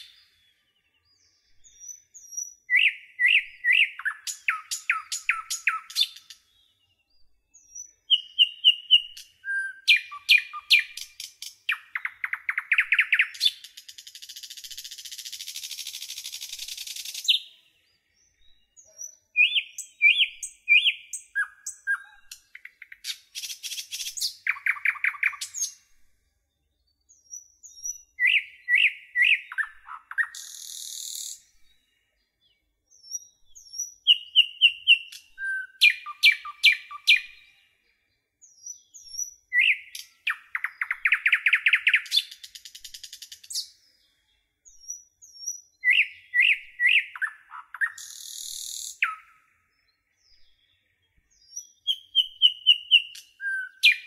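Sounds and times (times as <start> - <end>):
songbird chirps and trills: 0.0 - 54.0.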